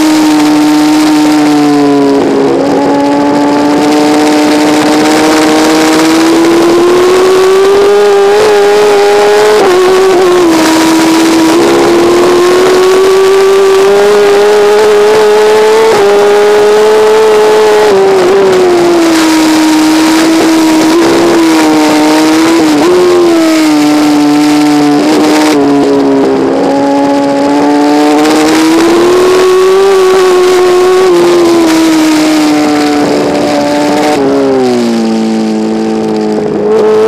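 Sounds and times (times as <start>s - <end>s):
racing motorcycle engine: 0.0s - 37.0s
wind rush: 0.0s - 37.0s.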